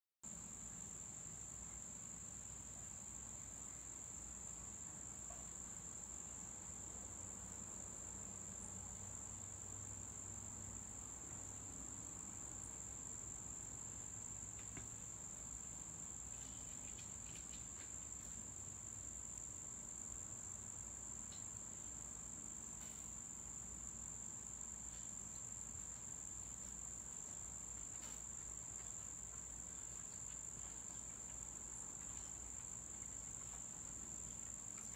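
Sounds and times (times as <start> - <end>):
shrill insect chorus: 1.3 - 34.9.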